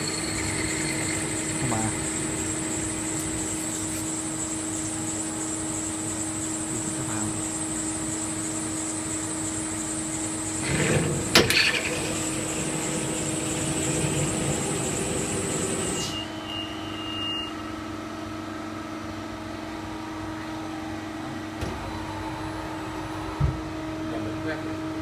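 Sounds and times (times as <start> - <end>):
machine high whine: 0.0 - 25.0
machine hum: 0.0 - 25.0.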